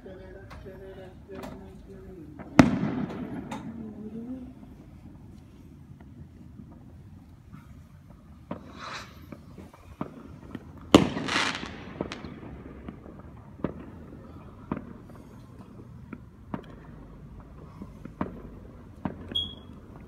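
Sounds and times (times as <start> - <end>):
fireworks bangs: 2.2 - 7.4, 8.0 - 20.0
firework hiss and crackle: 2.2 - 19.3.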